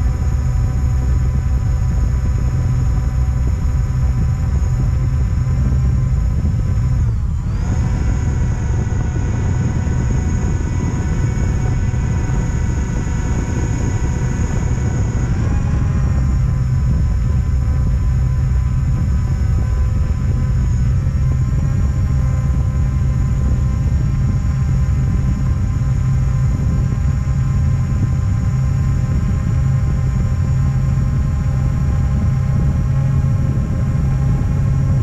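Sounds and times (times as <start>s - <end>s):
drone motors whining: 0.0s - 35.0s
heavy low rumble: 0.0s - 35.0s.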